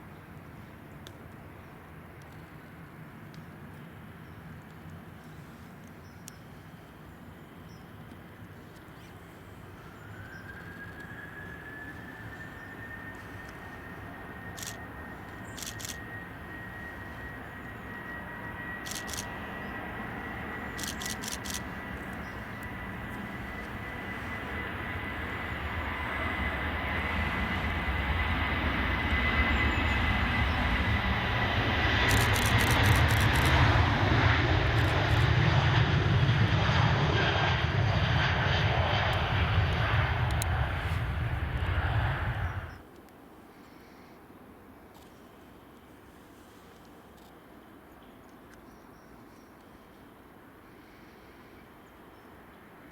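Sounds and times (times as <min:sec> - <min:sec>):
jet aircraft engines: 0:00.0 - 0:44.3, 0:44.9 - 0:52.9.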